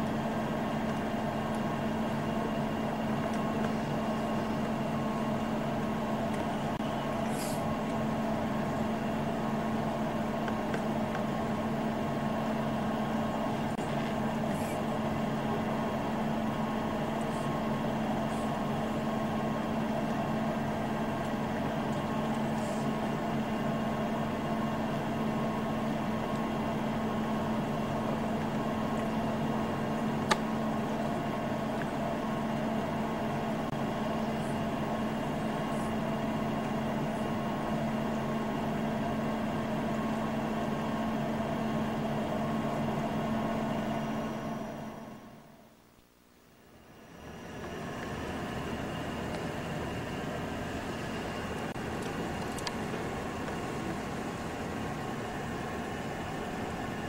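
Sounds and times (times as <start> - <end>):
machine-like hum: 0.0 - 57.0.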